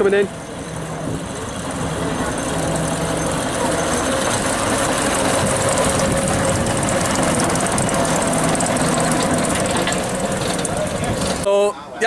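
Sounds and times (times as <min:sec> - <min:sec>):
diesel locomotive engine running: 0:00.0 - 0:11.5.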